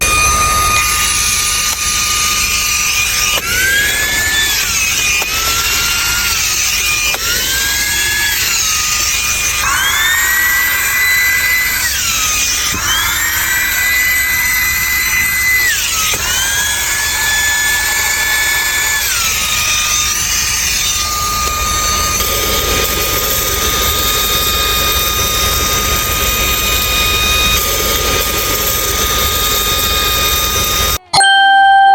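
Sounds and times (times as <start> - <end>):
handheld vacuum motor whining: 0.0 - 31.1.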